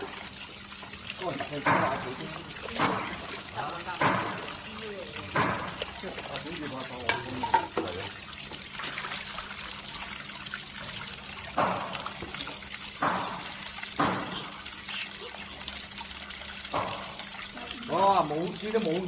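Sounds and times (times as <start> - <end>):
water sloshing in a steel basin: 0.0 - 19.0.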